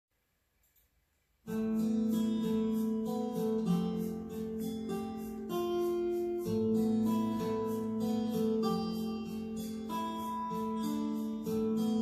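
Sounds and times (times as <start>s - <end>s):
strummed acoustic guitar: 1.4s - 12.0s.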